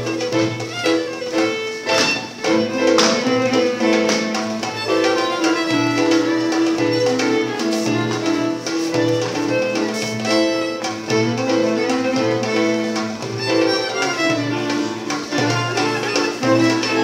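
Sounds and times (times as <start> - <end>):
fiddle melody: 0.0 - 17.0.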